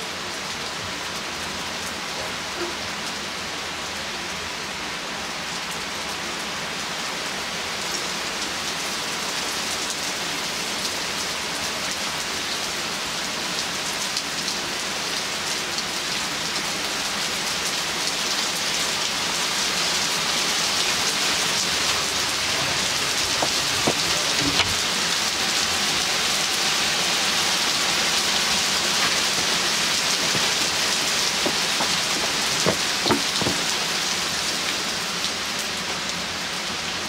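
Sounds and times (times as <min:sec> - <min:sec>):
heavy rain pattering: 0:00.0 - 0:37.0.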